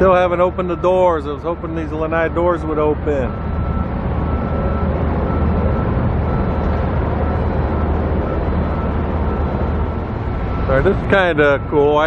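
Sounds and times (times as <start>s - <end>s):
faint high whine: 0.0s - 12.0s
low engine rumble: 0.0s - 12.0s.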